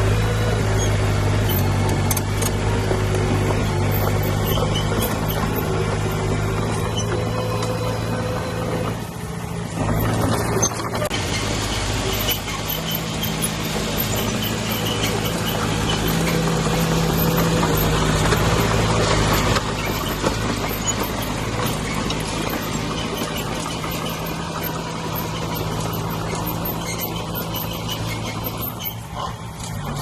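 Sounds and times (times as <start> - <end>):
heavy machinery diesel engine: 0.0 - 30.0.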